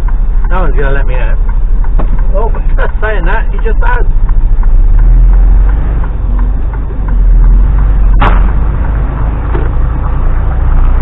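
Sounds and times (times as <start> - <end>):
lorry diesel engine rumbling: 0.0 - 11.0.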